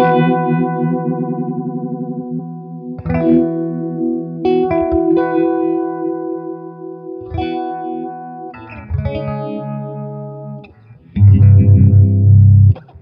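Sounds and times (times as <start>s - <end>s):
electric guitar strumming with phaser: 0.0s - 13.0s.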